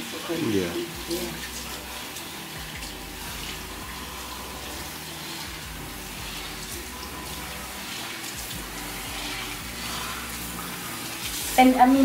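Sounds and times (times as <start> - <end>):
water running from shower sprayer: 0.0 - 12.0.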